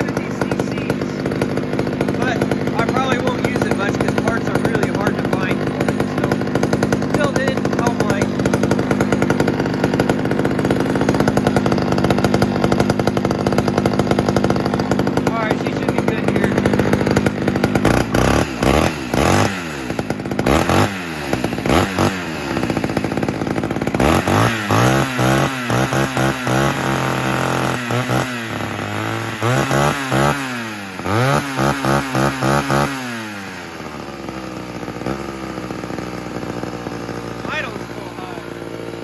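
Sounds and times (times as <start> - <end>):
chainsaw engine revving: 0.0 - 39.0.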